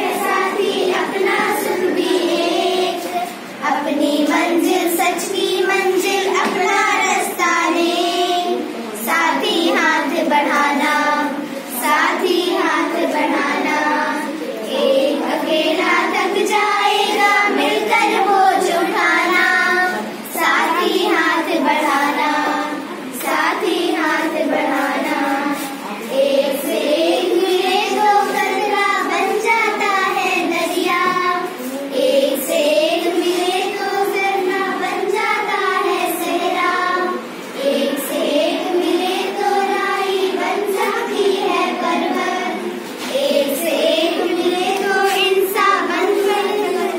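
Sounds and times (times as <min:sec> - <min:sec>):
children singing in unison: 0:00.0 - 0:46.9.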